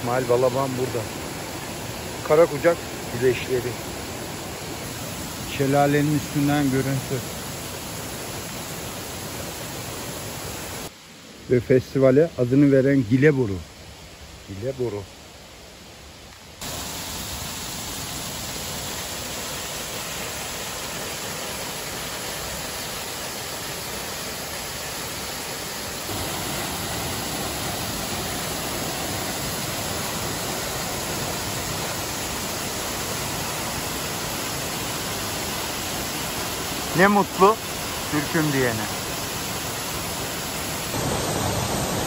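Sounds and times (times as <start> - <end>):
waterfall rushing: 0.0 - 11.4, 16.6 - 42.0.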